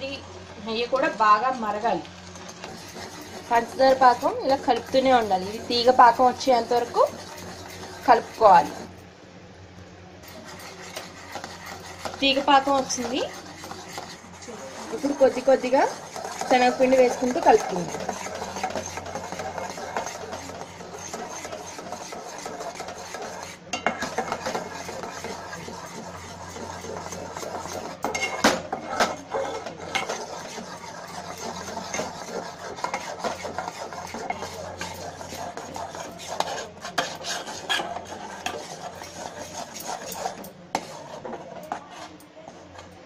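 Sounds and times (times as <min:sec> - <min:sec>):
spatula scraping metal pan: 0:02.2 - 0:09.0, 0:10.2 - 0:42.9.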